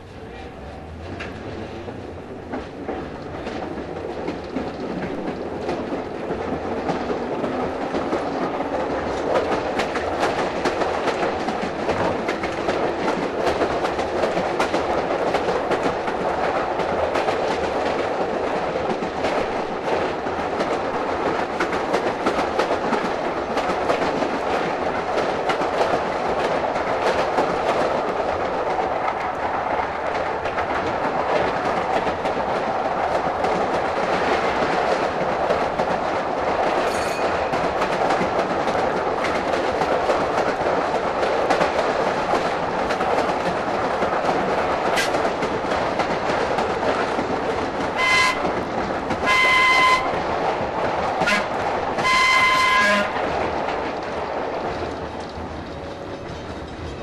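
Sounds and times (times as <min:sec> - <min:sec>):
tram rumbling on track: 0:00.0 - 0:57.0
wheels clicking over rail joints: 0:00.3 - 0:57.0.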